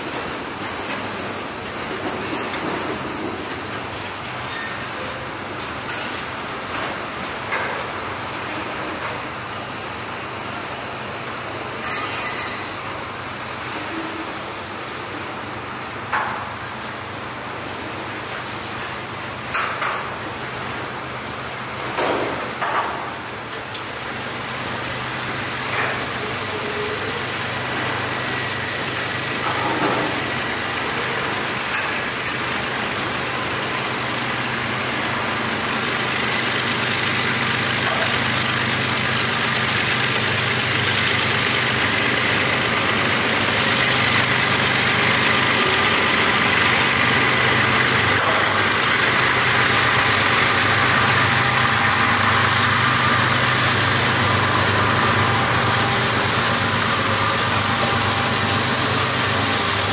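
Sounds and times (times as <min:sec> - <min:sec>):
diesel locomotive engines droning: 0:00.0 - 0:59.9.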